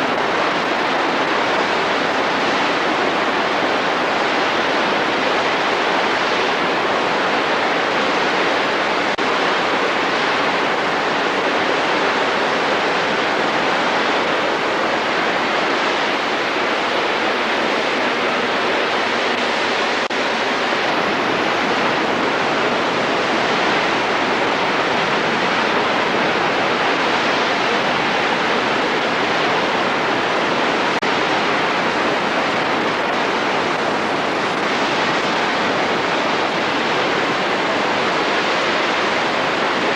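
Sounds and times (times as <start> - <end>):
fast water rushing: 0.0 - 39.9.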